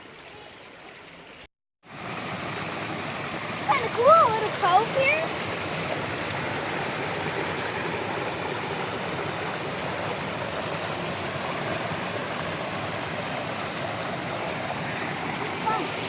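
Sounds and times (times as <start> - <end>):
creek water rushing over rocks: 0.0 - 16.0.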